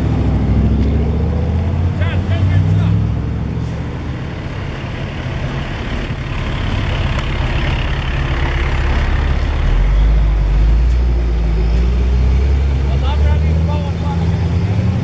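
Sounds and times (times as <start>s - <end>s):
car engines rumbling past: 0.0s - 15.0s.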